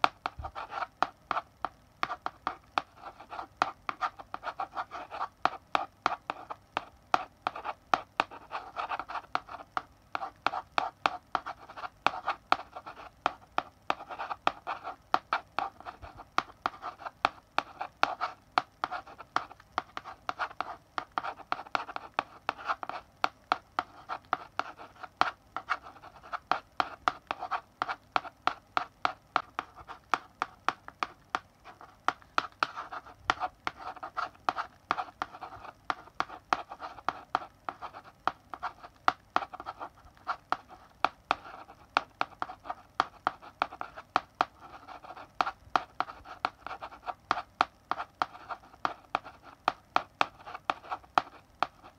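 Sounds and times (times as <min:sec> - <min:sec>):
chalk scratching on blackboard: 0:00.0 - 0:51.9
chalk tapping on board: 0:00.0 - 0:51.9.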